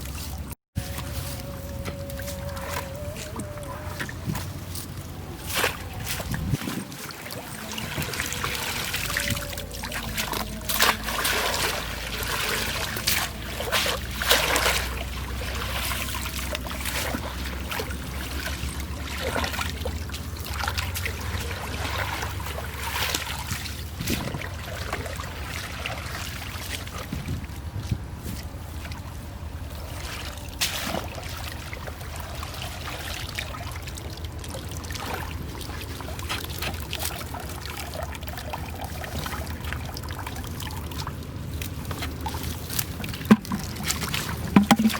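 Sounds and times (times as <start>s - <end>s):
water trickling and splashing: 0.0s - 44.9s.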